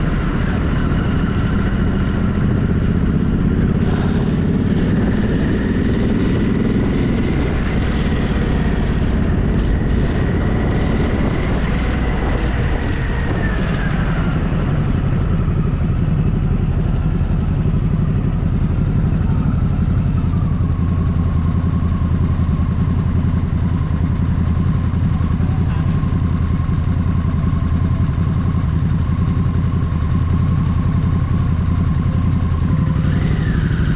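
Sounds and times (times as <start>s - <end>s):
engine whine: 0.0s - 33.9s
motorcycle engine rumbling: 0.0s - 33.9s.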